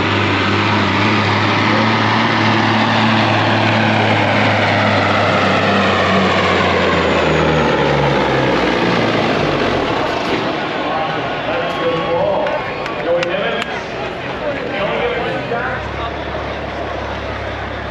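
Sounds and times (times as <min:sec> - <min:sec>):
truck engine running: 0:00.0 - 0:17.9.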